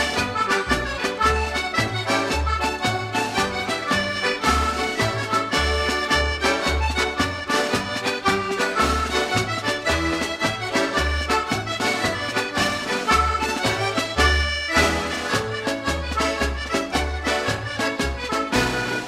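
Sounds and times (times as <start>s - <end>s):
accordion music: 0.0s - 19.0s.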